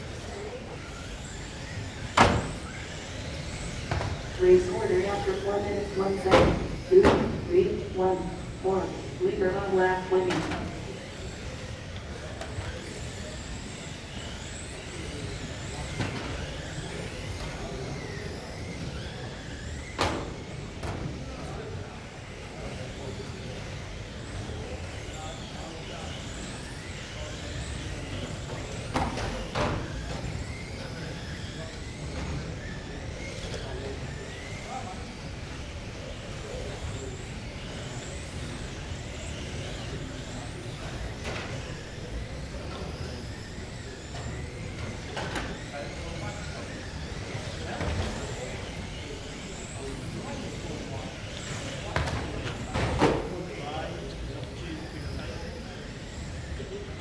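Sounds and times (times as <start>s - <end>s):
electric motors whining: 0.0s - 57.0s.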